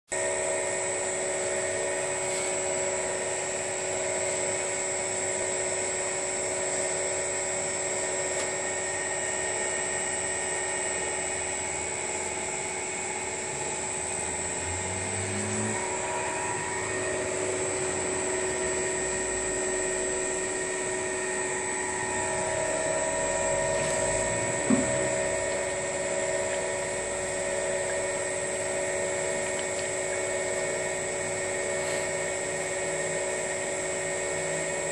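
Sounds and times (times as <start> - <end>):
oil press mechanical whine: 0.1 - 34.9.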